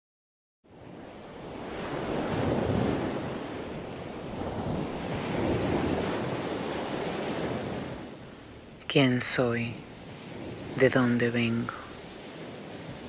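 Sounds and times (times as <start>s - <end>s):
rushing surf-like noise: 1.0s - 13.0s.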